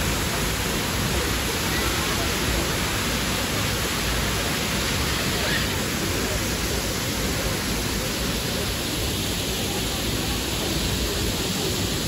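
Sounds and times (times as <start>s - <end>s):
waterfall pouring onto rocks: 0.0s - 12.0s.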